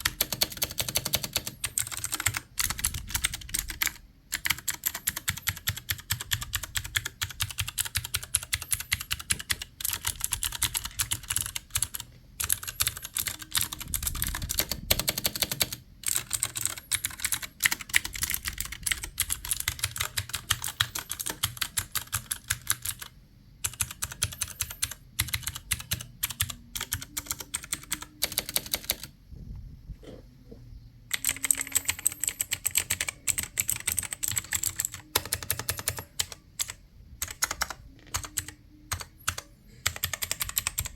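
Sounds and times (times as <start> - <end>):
keyboard typing: 0.0 - 29.2, 31.1 - 40.9.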